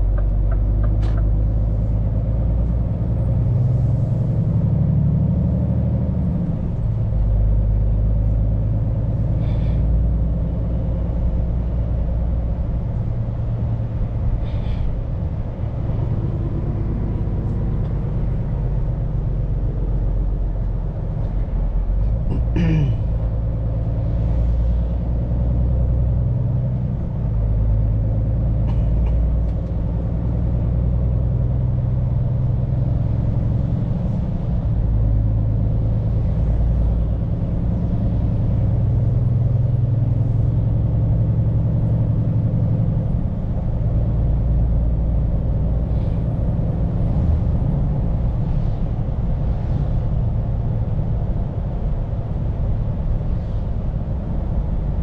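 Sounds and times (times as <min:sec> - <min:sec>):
road noise: 0:00.0 - 0:55.0
truck diesel engine droning: 0:00.0 - 0:55.0.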